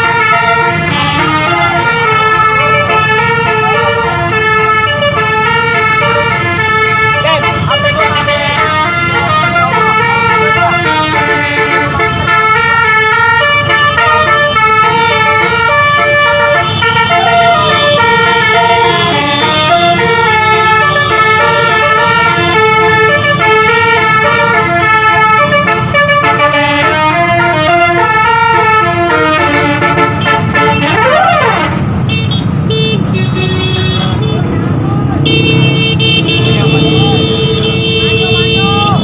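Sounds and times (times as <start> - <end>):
musical air horn melody: 0.0 - 31.9
engine and road rumble: 0.0 - 39.0.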